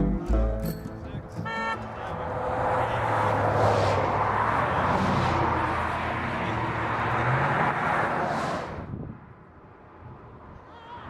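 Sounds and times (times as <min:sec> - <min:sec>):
vehicle passing on road: 0:00.6 - 0:10.7.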